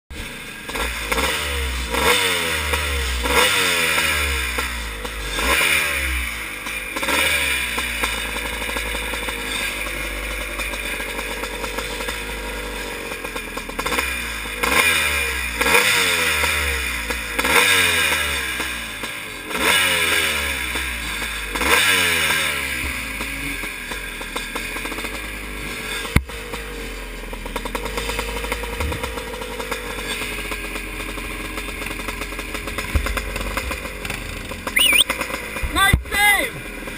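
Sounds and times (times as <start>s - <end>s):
motorcycle engine revving: 0.2s - 35.7s.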